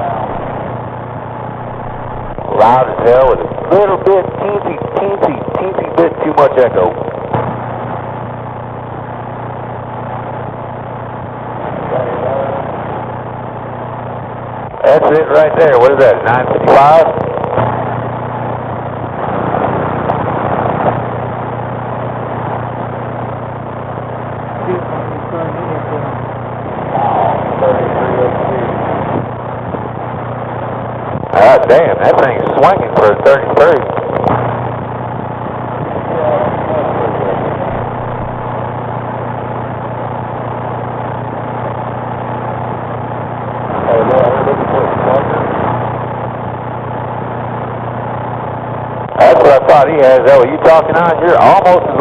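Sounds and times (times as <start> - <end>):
low hum: 0.0 - 49.6
radio static hiss: 0.0 - 52.0.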